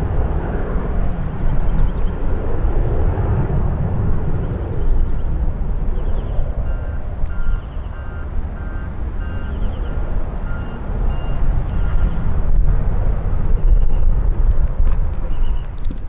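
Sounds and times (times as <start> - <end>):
jet airliner rumble: 0.0 - 16.0.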